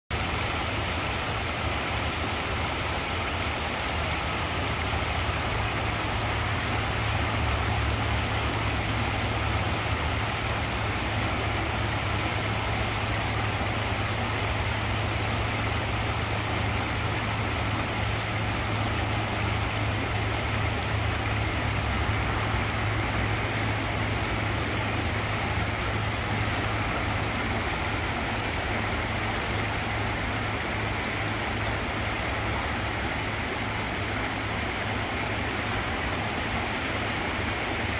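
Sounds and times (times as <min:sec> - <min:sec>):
ship diesel engine drone: 0:00.1 - 0:37.9.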